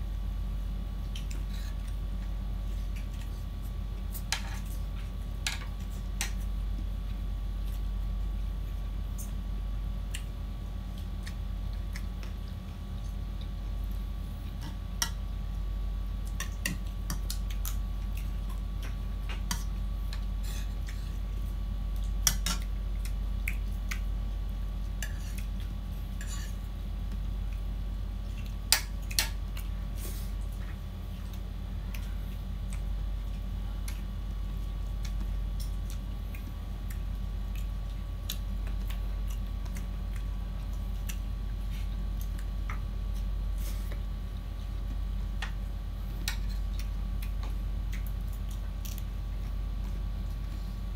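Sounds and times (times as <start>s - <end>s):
steady low hum: 0.0s - 50.9s
chewing and lip-smacking: 1.0s - 50.9s.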